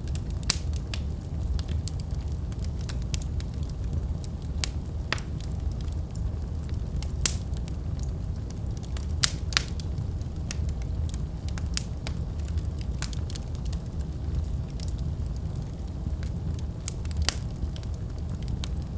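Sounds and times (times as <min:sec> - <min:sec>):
fire crackling and popping: 0:00.0 - 0:18.9
fire flames rumbling: 0:00.0 - 0:18.9.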